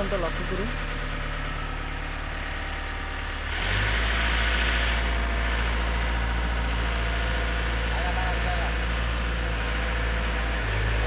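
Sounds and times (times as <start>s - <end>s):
diesel engine revving: 0.0s - 11.0s.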